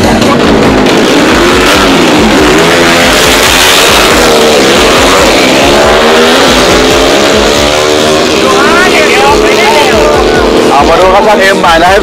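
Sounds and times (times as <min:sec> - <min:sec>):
motorcycle engine revving hard: 0:00.0 - 0:12.0.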